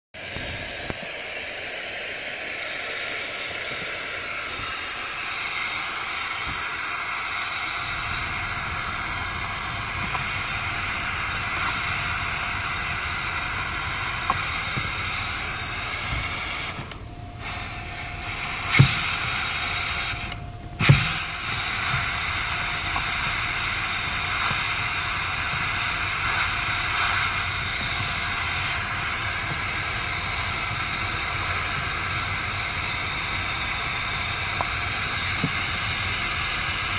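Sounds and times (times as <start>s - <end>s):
brake booster hissing: 0.1s - 36.9s.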